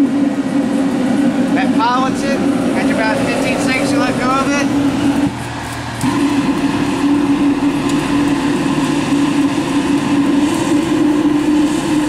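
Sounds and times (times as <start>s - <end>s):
propane heater fan and burner drone: 0.0s - 12.0s.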